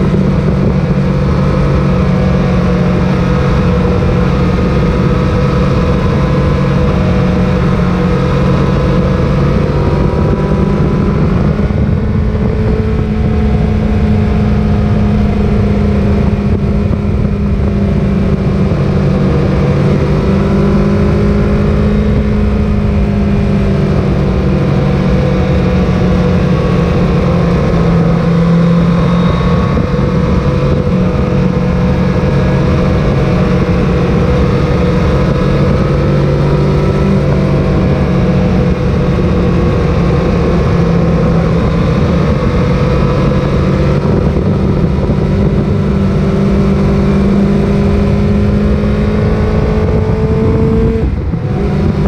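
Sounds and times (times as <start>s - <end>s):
motorcycle engine running: 0.0s - 52.0s
wind buffeting microphone: 0.0s - 52.0s.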